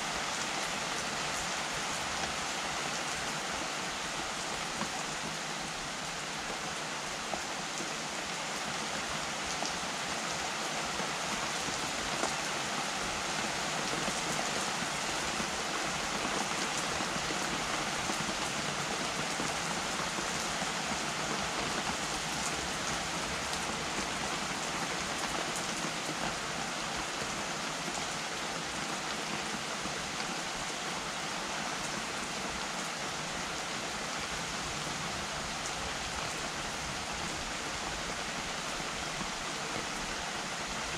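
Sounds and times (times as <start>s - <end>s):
steady rain with patter of drops: 0.0s - 40.9s.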